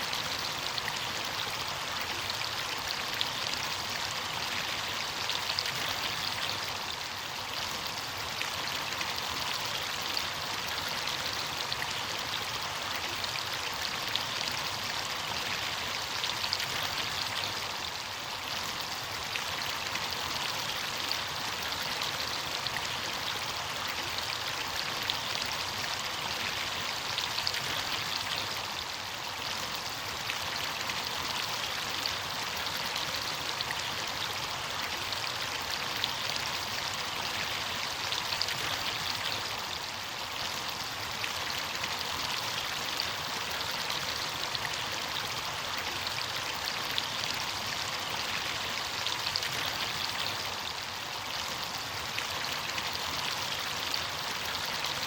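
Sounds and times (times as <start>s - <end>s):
stream water splashing over rocks: 0.0s - 55.0s.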